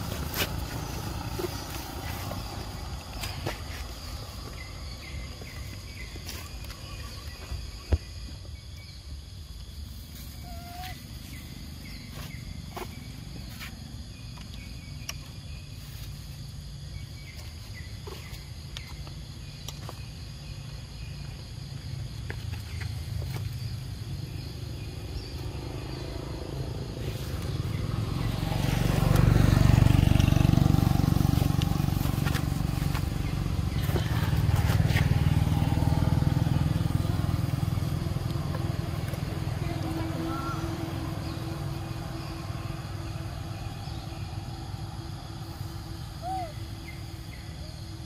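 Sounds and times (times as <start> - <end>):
motorcycle engine rumble: 0.0 - 48.0
road traffic passing: 0.0 - 48.0.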